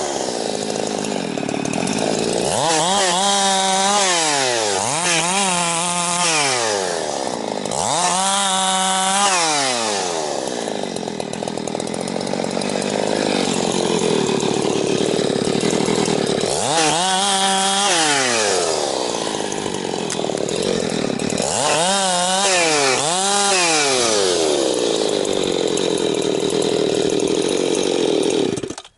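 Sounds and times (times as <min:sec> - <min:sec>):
chainsaw cutting wood: 0:00.0 - 0:28.9.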